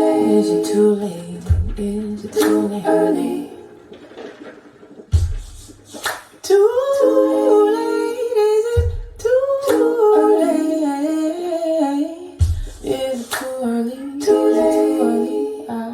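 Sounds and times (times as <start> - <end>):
woman's wordless vocal harmonies: 0.0 - 4.5, 5.8 - 15.9.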